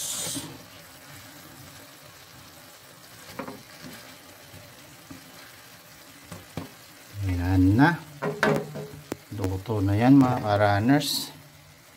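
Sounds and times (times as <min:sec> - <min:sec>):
sauce bubbling in a frying pan: 0:00.0 - 0:11.9.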